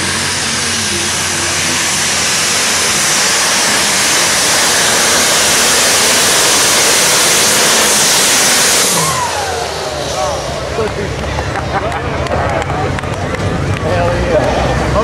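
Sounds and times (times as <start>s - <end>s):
tractor engines roaring: 0.0s - 15.0s.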